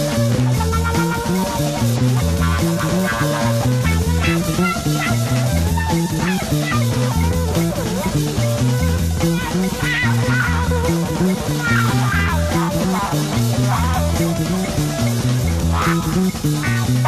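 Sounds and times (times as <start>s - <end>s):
electric guitar lead with bending notes: 0.0s - 17.0s
repeating bass riff: 0.0s - 17.0s.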